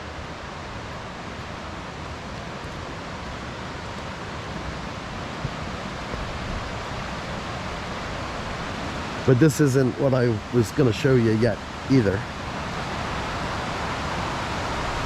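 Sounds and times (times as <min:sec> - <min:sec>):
creek running over rocks: 0:00.0 - 0:15.0.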